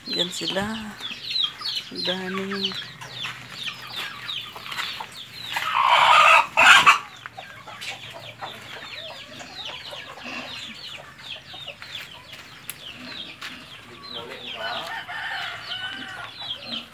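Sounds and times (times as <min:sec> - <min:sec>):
chickens clucking and calling: 0:00.0 - 0:16.9.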